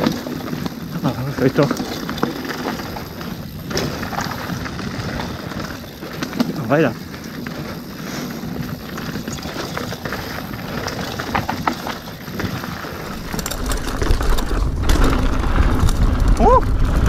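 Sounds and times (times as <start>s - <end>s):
bike chain rattling: 0.0s - 17.0s
tyres crunching over dirt: 0.0s - 17.0s
wind buffeting microphone: 2.8s - 17.0s.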